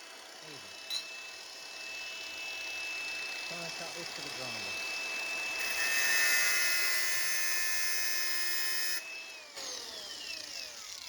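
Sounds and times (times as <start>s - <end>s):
angle grinder whine: 0.0s - 11.0s.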